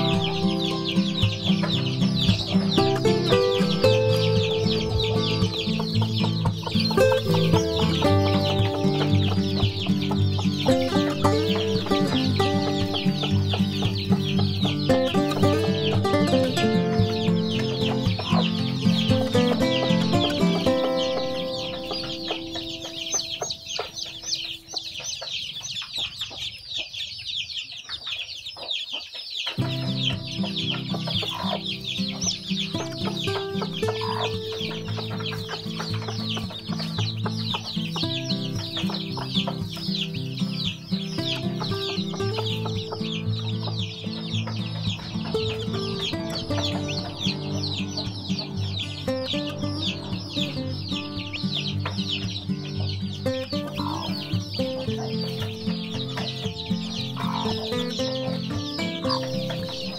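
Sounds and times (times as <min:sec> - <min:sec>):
background music: 0:00.0 - 0:24.8, 0:29.6 - 0:59.9
chicks peeping: 0:00.0 - 0:59.9.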